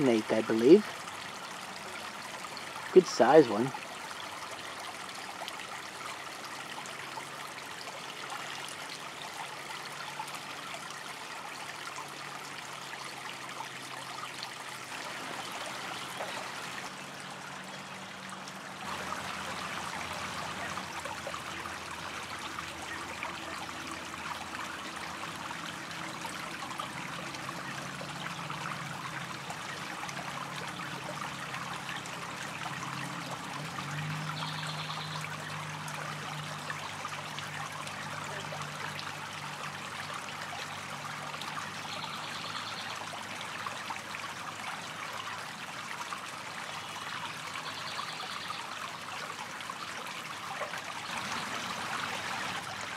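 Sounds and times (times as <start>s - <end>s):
creek trickling over rocks: 0.0s - 52.9s.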